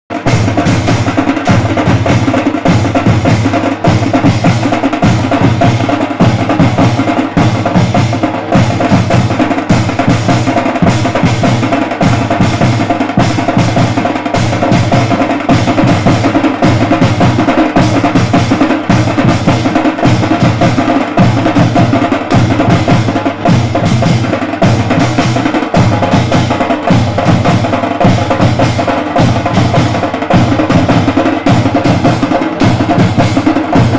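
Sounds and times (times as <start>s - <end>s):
drum band playing: 0.1s - 33.9s.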